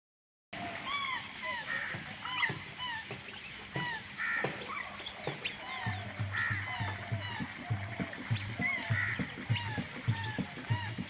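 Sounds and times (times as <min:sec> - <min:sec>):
flock of birds calling: 0:00.6 - 0:11.0.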